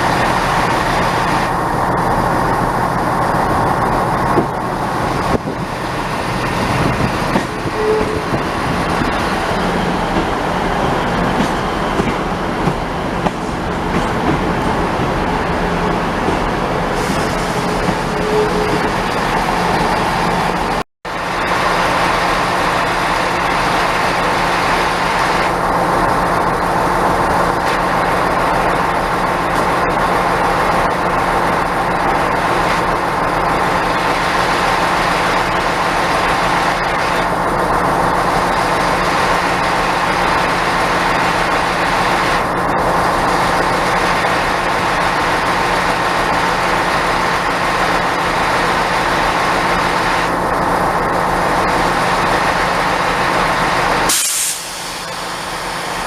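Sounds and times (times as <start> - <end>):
train engine droning: 0.0 - 56.0.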